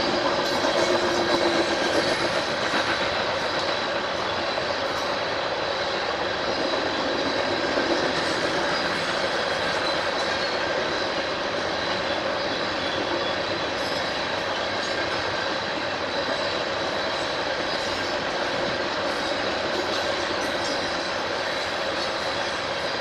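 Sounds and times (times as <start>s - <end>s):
railroad cars rolling past: 0.0s - 23.0s.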